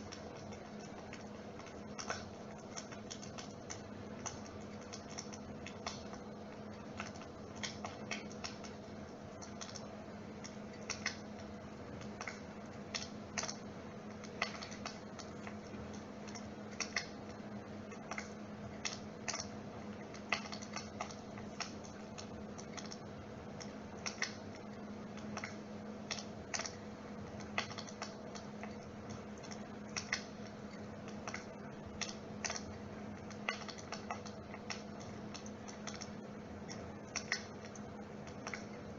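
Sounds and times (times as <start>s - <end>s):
flame-effect unit humming: 0.0s - 38.9s
sharp crackling clicks: 0.0s - 38.9s.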